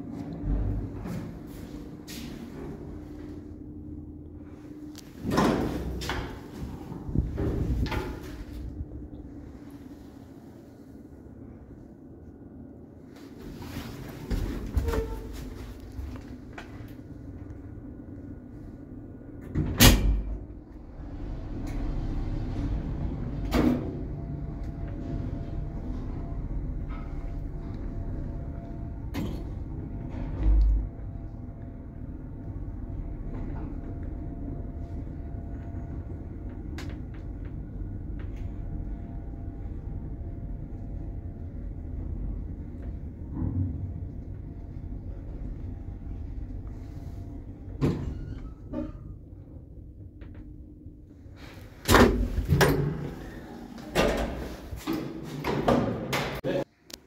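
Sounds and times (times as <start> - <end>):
lift motor hum: 0.0 - 57.0.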